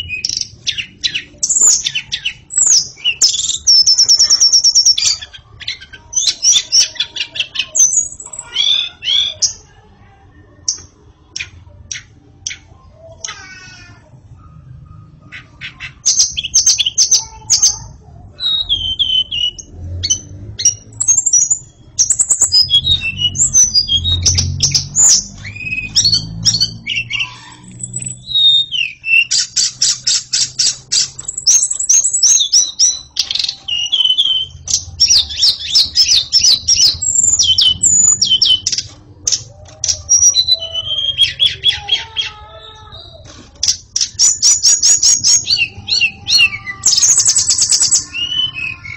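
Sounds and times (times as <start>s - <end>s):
bird singing whistles and trills: 0.0s - 9.6s, 18.3s - 43.3s, 44.0s - 48.9s.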